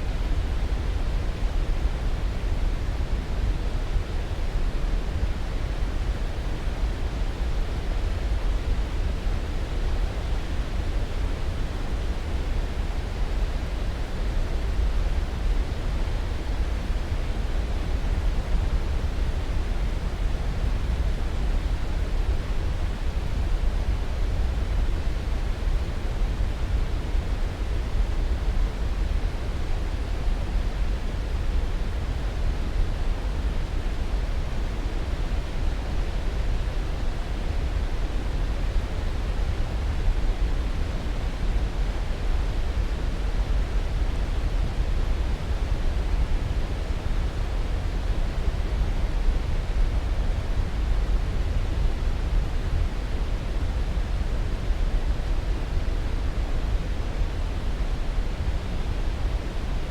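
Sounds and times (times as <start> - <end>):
steady low hiss noise: 0.0 - 59.9.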